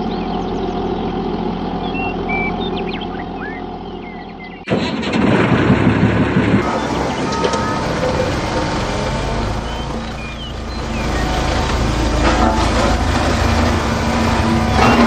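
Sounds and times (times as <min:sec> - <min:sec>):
birds chirping: 0:00.0 - 0:04.7, 0:06.6 - 0:15.0
engine humming: 0:00.0 - 0:15.0.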